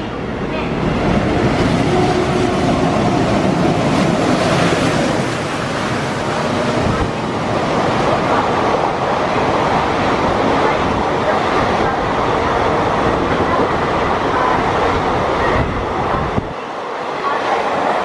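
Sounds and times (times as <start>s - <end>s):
passenger train passing: 0.0s - 18.0s.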